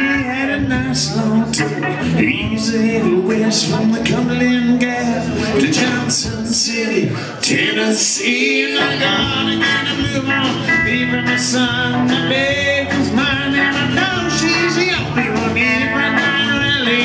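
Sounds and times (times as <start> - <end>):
electric guitar: 0.0 - 6.6, 7.3 - 17.0
acoustic guitar: 0.0 - 17.0
bass guitar: 0.0 - 17.0
drums: 0.0 - 17.0
man singing: 0.0 - 17.0.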